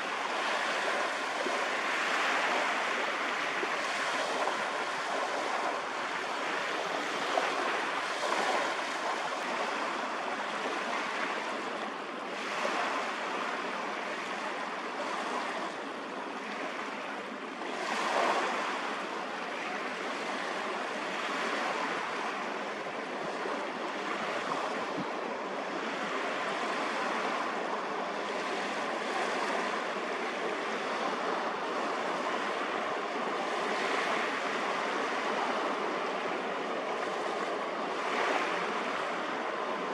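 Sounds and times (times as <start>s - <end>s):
sea water rushing: 0.0s - 39.9s
wind: 0.0s - 39.9s.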